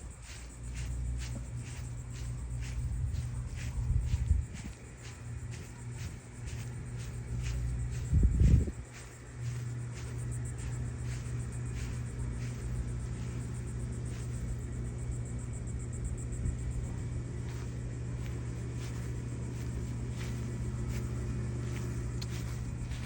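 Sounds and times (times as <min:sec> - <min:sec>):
light ticks and rustles: 0:00.0 - 0:14.7, 0:16.8 - 0:23.0
low mechanical hum: 0:00.0 - 0:23.0.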